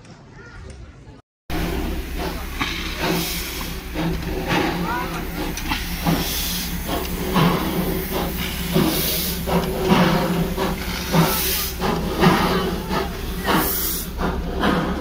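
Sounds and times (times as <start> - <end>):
steam locomotive hissing: 1.5 - 15.0.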